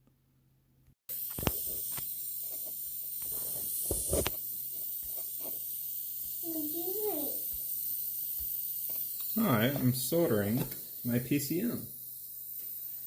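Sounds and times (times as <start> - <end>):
steady high hiss: 1.1 - 13.0.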